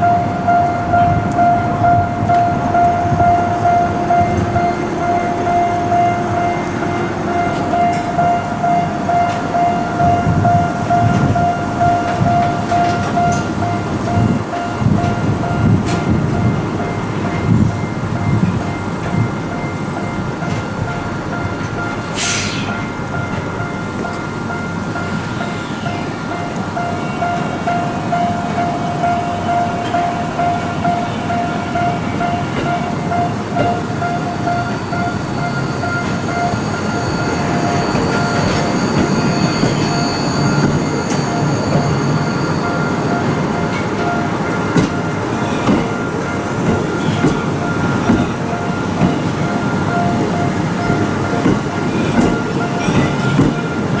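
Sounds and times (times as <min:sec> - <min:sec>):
level crossing warning bell: 0:00.0 - 0:54.0
train rumbling: 0:00.0 - 0:54.0.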